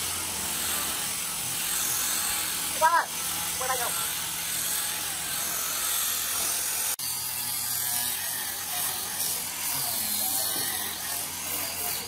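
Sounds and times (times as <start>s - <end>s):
angle grinder sanding wood: 0.0s - 12.0s.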